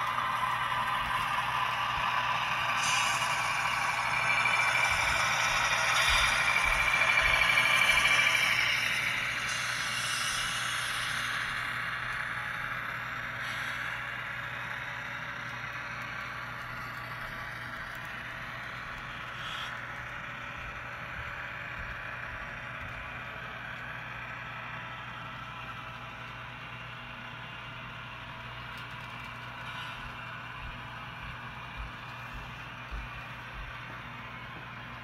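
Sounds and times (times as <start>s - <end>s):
low hum: 0.0s - 35.0s
model train wheels rolling on rails: 0.0s - 35.0s.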